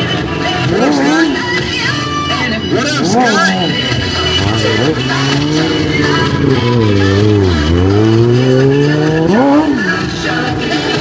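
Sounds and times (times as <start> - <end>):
loud music: 0.0 - 11.0
motorcycle engine revving: 0.0 - 11.0.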